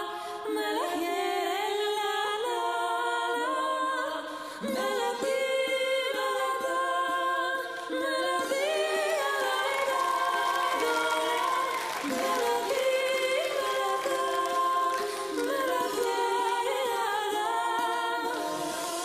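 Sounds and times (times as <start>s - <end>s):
unaccompanied voices singing: 0.0s - 19.0s.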